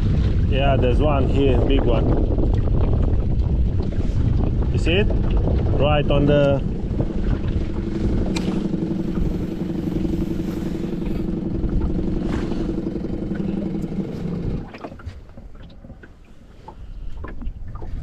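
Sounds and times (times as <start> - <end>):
boat motor humming: 0.0 - 18.0
wind noise on microphone: 0.0 - 18.0.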